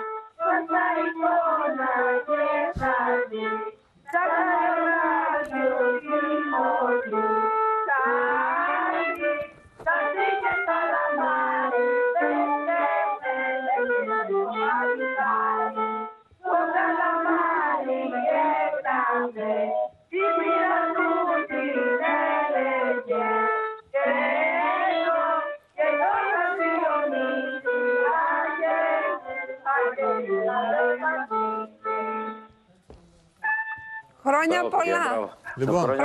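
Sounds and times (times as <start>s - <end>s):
instruments playing along: 0.0s - 32.7s, 33.4s - 36.0s
children singing carols: 0.4s - 32.2s.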